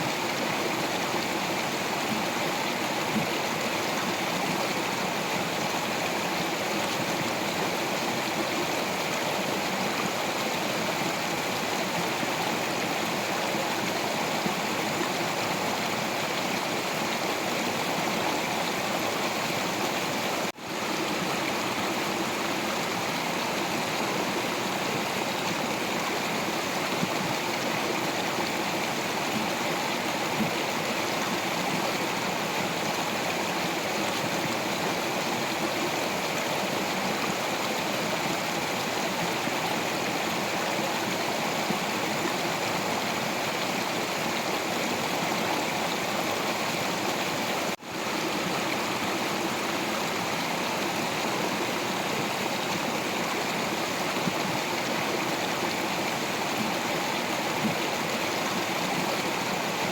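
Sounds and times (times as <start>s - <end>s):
stream water flowing over rocks: 0.0s - 59.9s.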